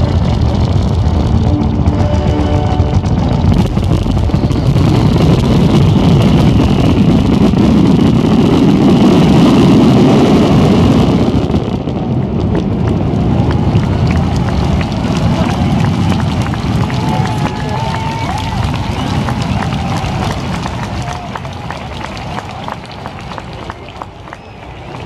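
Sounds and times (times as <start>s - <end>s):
fireworks booming: 0.0s - 25.0s
fireworks crackling: 0.0s - 25.0s.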